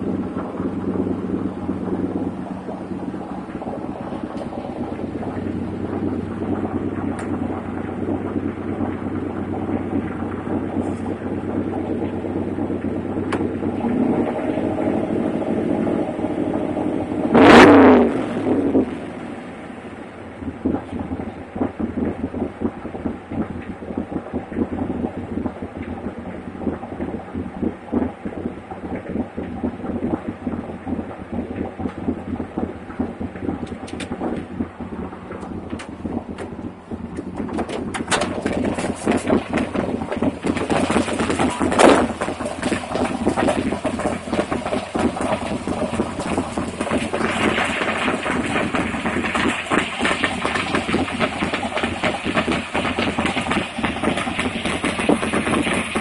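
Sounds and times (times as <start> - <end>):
engine idling with pulsing beat: 0.0 - 56.0.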